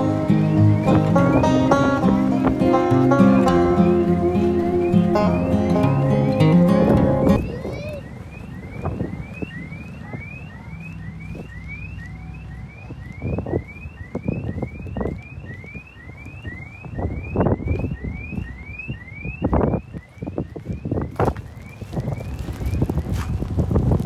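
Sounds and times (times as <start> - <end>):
wind buffeting microphone: 0.0 - 11.7, 12.4 - 24.0.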